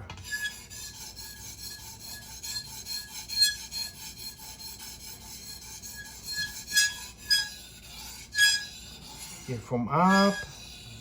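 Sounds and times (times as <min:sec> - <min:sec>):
knife scraping on whetstone: 0:00.1 - 0:11.0.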